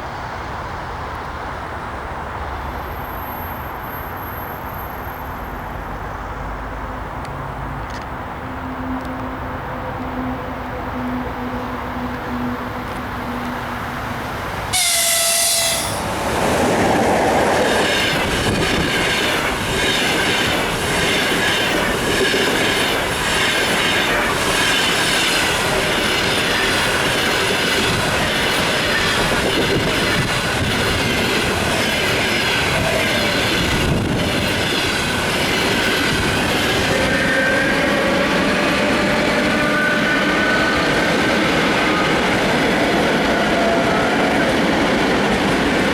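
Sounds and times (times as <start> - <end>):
train rushing past: 0.0 - 45.9.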